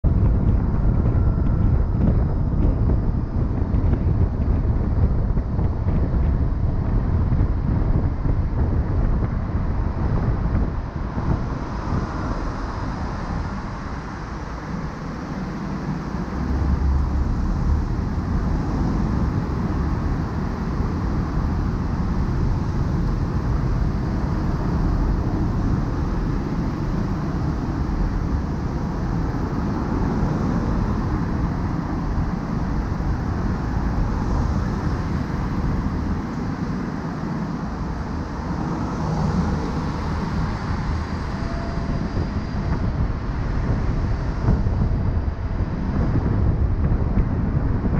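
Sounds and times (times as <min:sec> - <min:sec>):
tyre and engine rumble: 0:00.0 - 0:47.9.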